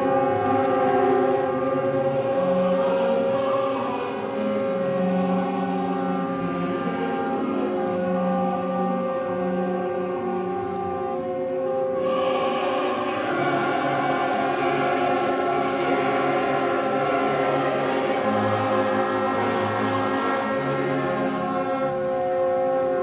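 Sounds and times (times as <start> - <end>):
choir singing held chords: 0.0 - 23.0.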